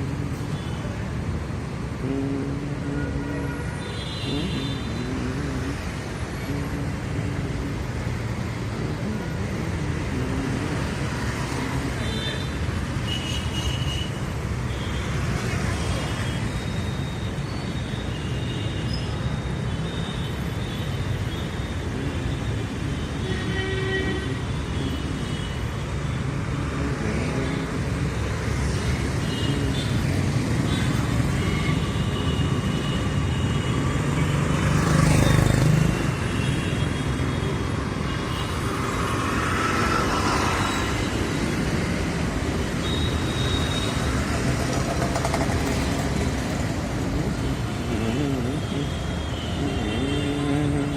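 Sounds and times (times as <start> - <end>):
traffic rumble: 0.0 - 17.0, 21.5 - 50.9.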